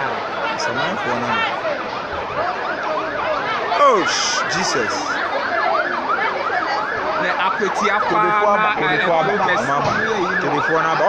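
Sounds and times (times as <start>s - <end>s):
emergency sirens wailing: 0.0s - 11.0s.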